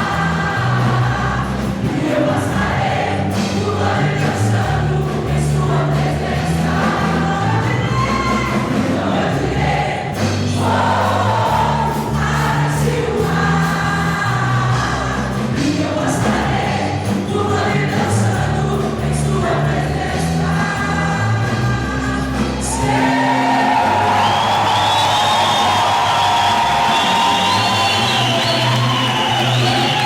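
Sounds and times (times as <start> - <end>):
choir singing: 0.0 - 30.0
held bass notes: 0.0 - 30.0.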